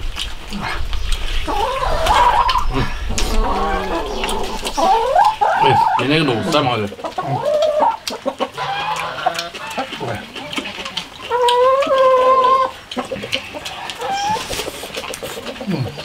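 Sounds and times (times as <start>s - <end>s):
chickens calling: 0.0s - 16.0s
chicken drawn-out call: 1.4s - 10.2s, 11.2s - 16.0s.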